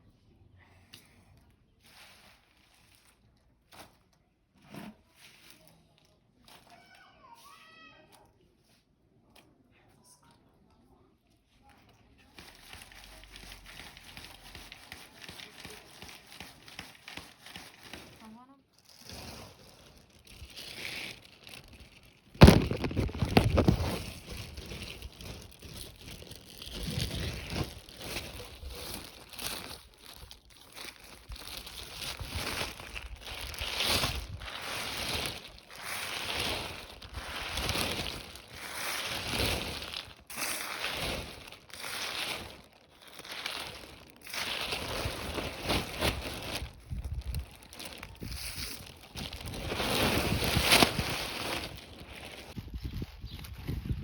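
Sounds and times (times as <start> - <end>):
crumpling and rustling handling: 1.3 - 54.0.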